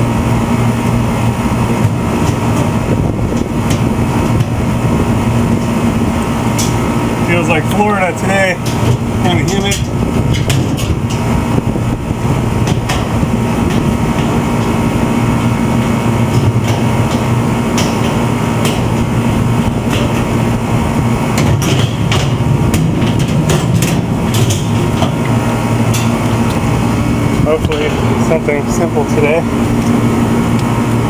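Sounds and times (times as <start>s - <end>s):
condenser fan humming: 0.0s - 31.0s.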